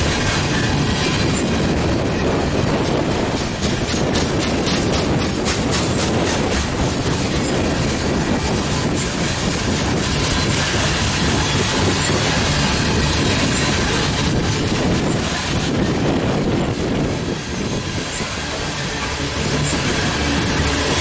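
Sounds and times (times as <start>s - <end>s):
freight train rumbling on rails: 0.0s - 21.0s
wheels clickety-clack over rail joint: 0.0s - 21.0s.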